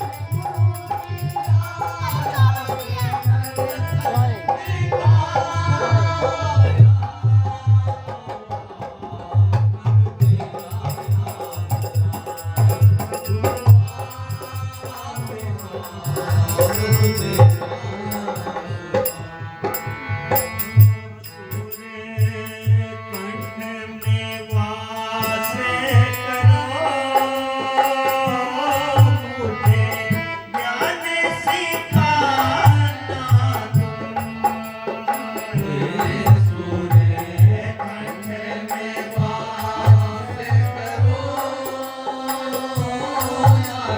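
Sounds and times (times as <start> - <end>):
hand drum beat: 0.0 - 5.3, 10.2 - 43.9.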